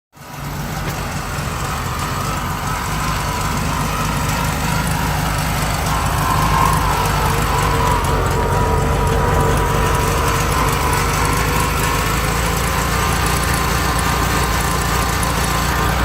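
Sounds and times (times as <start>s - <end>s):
engine idling roughly: 0.2s - 16.0s
steady whine: 0.2s - 16.0s.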